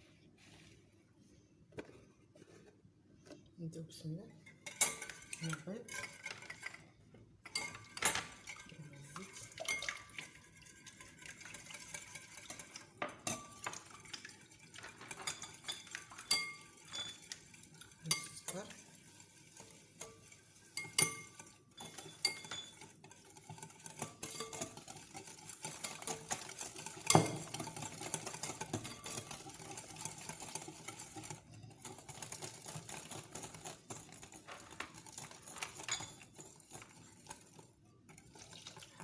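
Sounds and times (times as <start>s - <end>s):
stirring in a bowl: 0.0s - 39.0s
utensil clinking against bowl: 4.4s - 39.0s.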